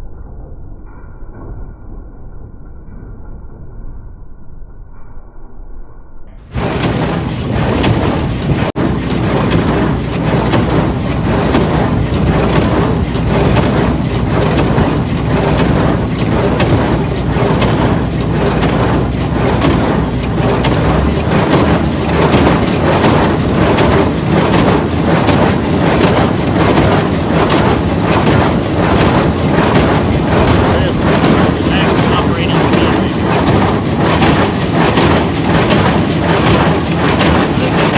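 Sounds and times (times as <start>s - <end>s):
regular baler beat: 6.5s - 37.9s
tractor and hay baler running: 6.5s - 37.9s.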